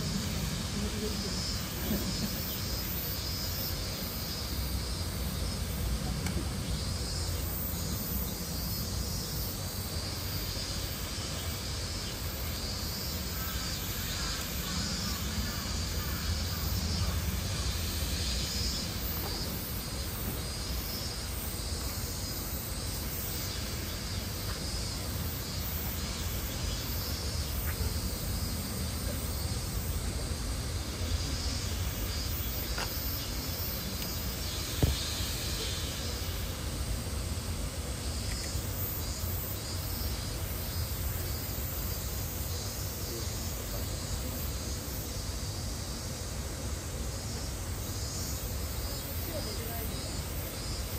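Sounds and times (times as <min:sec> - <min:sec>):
fluttering insect drone: 0:00.0 - 0:50.9.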